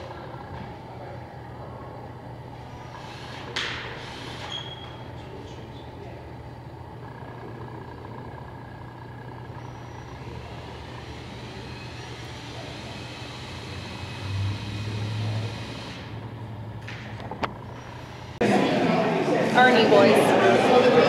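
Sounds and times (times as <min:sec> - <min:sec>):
low rumbling hum: 0:00.0 - 0:18.4.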